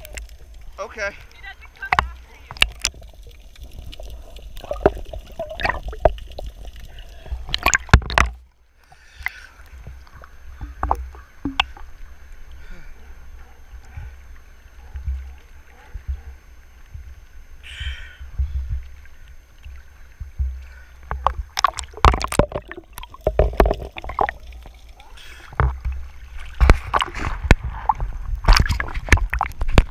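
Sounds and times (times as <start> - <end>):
seawater splashing: 0.0 - 29.9.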